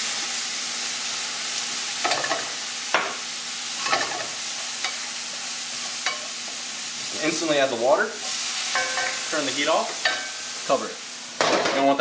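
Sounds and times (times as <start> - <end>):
sauce sizzling in hot pan: 0.0 - 12.0.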